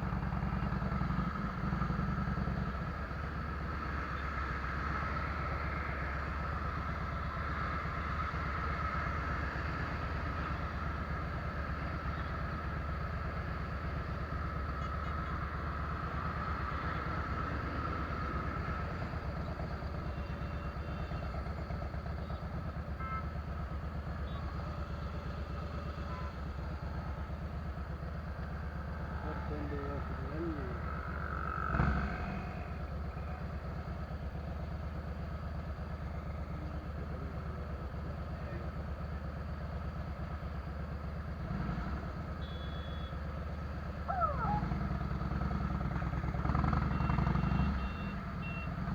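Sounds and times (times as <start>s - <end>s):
motorcycle engine running steadily: 0.0s - 48.9s.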